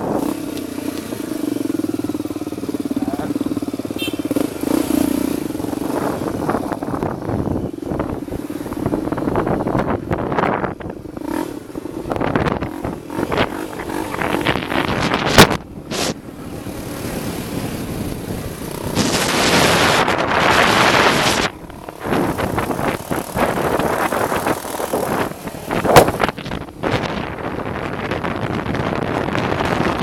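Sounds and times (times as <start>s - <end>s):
dirt bike engines: 0.0s - 30.0s
wind buffeting microphone: 5.4s - 30.0s.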